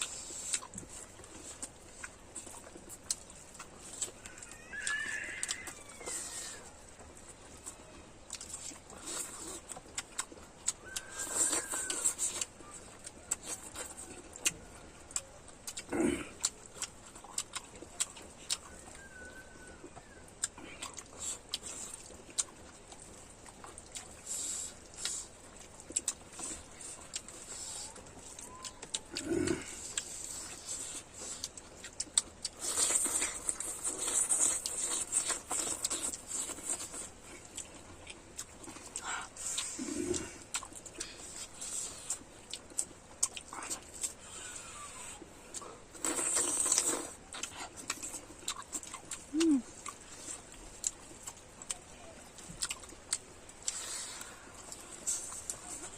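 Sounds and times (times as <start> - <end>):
chewing smacks and clicks: 0.0 - 55.9.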